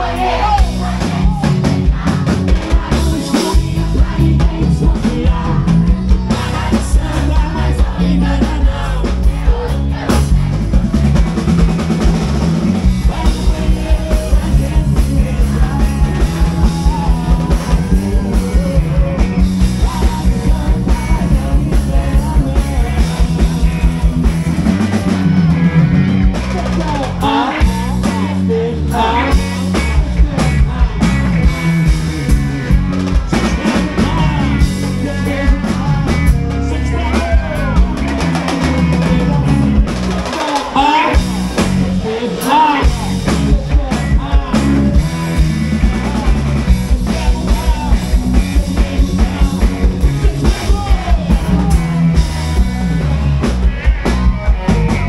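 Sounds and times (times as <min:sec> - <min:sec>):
male singing: 0:00.0 - 0:10.4, 0:12.9 - 0:24.3, 0:26.6 - 0:31.2, 0:33.3 - 0:41.4, 0:42.0 - 0:52.3
drum kit fast beat: 0:00.0 - 0:55.0
electric guitars: 0:00.0 - 0:55.0.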